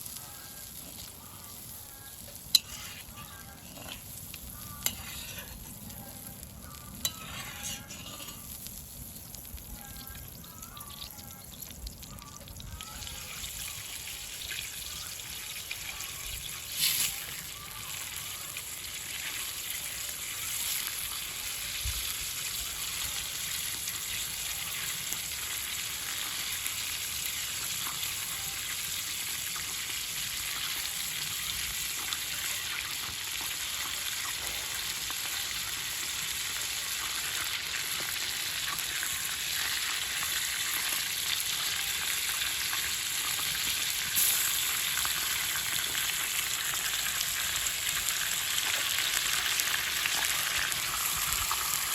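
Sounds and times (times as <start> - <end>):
food sizzling in a pot: 0.0 - 51.9.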